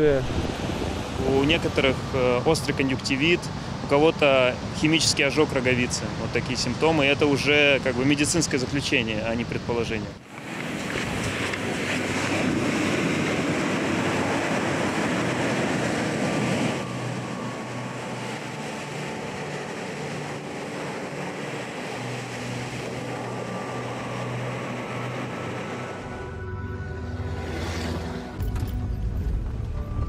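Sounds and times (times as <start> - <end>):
ocean surf washing: 0.0 - 28.4.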